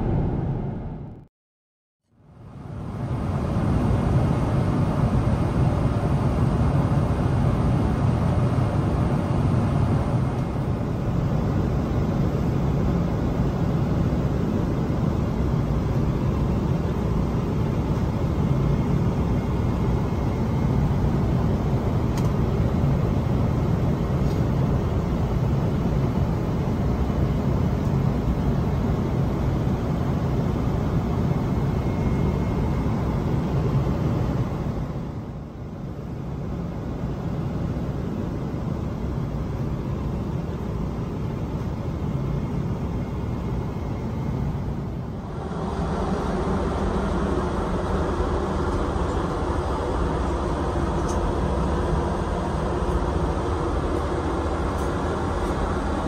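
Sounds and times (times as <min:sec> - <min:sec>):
airplane cabin noise: 0:02.5 - 0:56.0.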